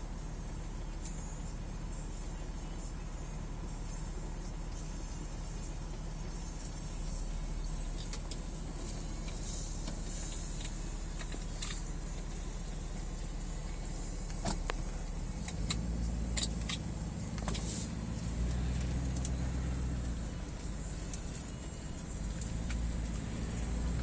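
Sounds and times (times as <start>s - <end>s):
motor vehicles rumbling: 0.0s - 24.0s.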